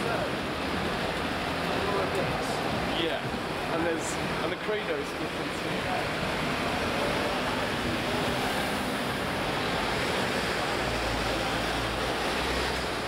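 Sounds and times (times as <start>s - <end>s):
street traffic roar: 0.0s - 13.0s.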